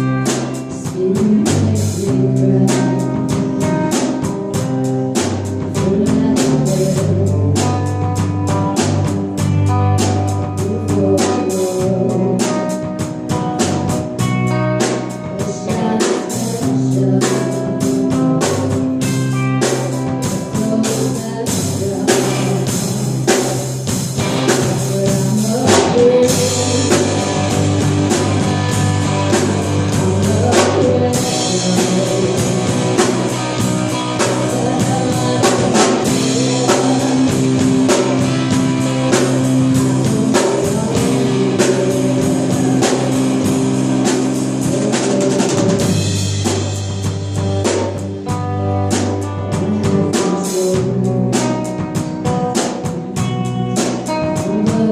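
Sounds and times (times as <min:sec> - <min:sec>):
bass guitar: 0:00.0 - 0:54.9
drum kit: 0:00.0 - 0:54.9
electric guitar: 0:00.0 - 0:54.9
person singing: 0:00.0 - 0:54.9.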